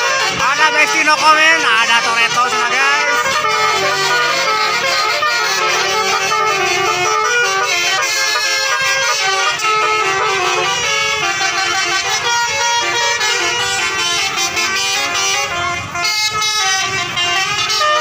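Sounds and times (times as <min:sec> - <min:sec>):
bus horn playing a melody: 0:00.0 - 0:18.0.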